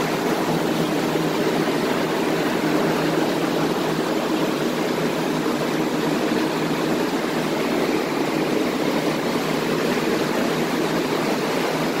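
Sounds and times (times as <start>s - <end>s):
blower fans rushing air: 0.0s - 12.0s
low motor hum: 0.0s - 12.0s.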